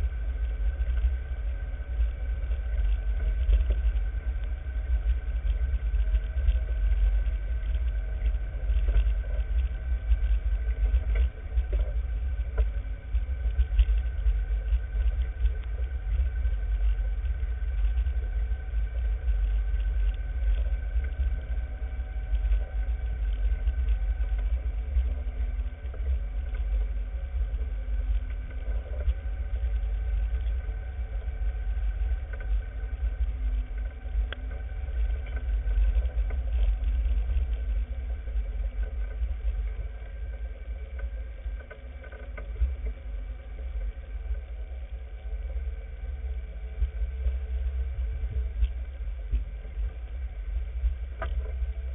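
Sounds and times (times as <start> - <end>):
faint engine drone: 0.0 - 51.9
vehicle rumble on bumpy trail: 0.0 - 51.9.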